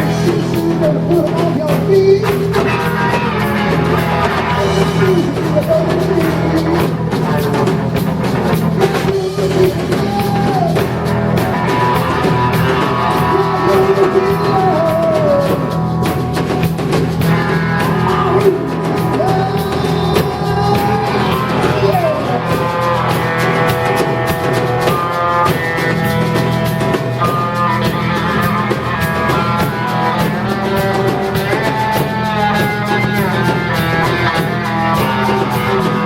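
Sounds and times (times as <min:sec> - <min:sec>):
drum kit: 0:00.0 - 0:36.0
electric guitar: 0:00.0 - 0:36.0
person singing: 0:00.0 - 0:36.0.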